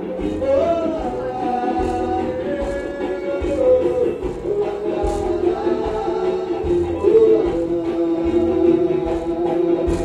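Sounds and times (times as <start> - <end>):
low drum beats: 0.0 - 10.0.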